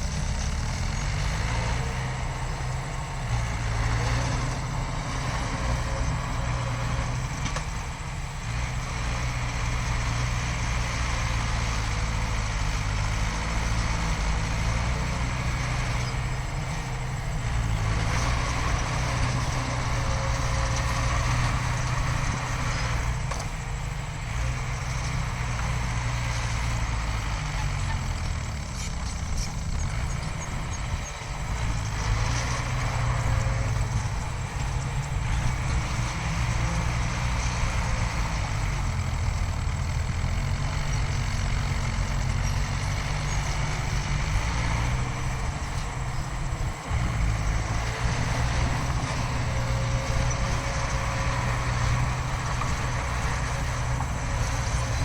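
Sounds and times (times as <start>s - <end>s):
diesel machinery engines running: 0.0s - 55.0s.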